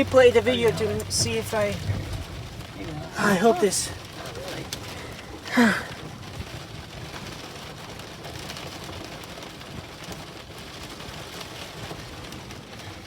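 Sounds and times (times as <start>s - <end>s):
heavy rain on a car: 0.0s - 13.0s.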